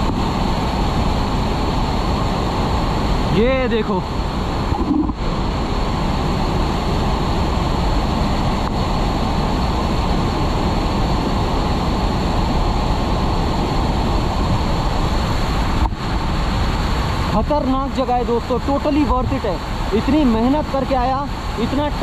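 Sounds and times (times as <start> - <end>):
stream rushing over rocks: 0.0 - 22.0
waterfall roaring: 0.0 - 22.0.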